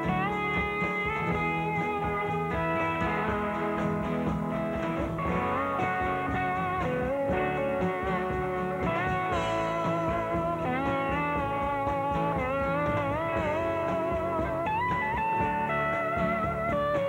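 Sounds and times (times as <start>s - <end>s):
blues slide guitar music: 0.0s - 17.0s.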